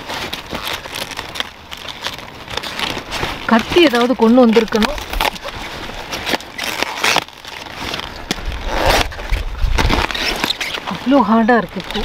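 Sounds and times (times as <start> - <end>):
cauliflower leaves rustling and crackling: 0.0 - 12.0.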